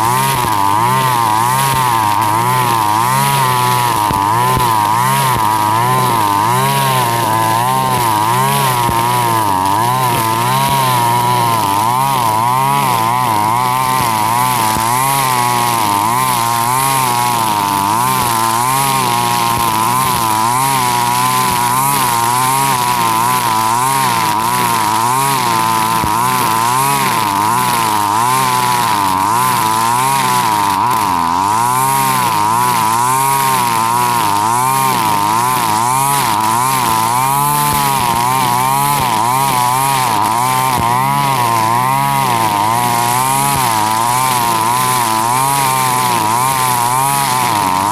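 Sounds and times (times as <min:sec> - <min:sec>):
brush cutter engine revving: 0:00.0 - 0:47.9.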